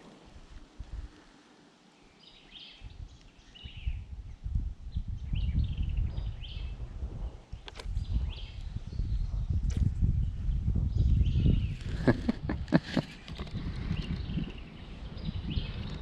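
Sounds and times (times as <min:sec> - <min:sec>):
small birds chirping: 0:01.9 - 0:16.0.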